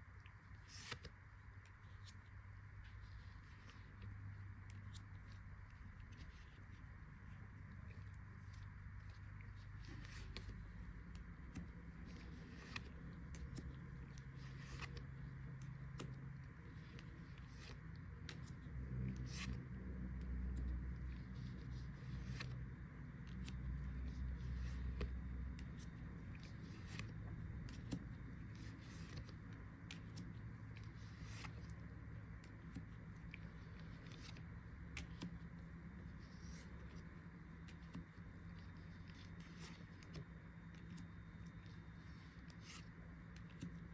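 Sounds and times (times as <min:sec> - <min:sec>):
faint low hum: 0:00.0 - 0:43.9
light clicks and scrapes: 0:00.2 - 0:43.9.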